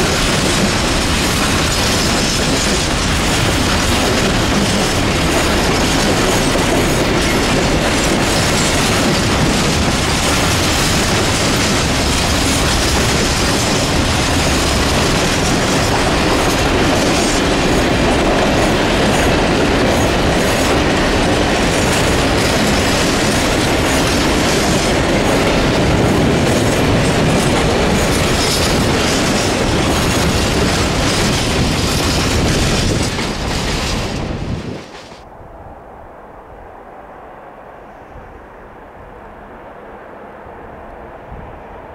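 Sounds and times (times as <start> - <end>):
train wheels rumbling on rails: 0.0 - 35.4.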